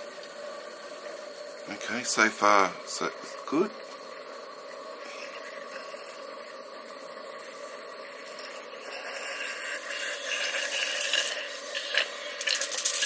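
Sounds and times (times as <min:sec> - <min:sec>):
steam hissing and sputtering: 0:00.0 - 0:13.0.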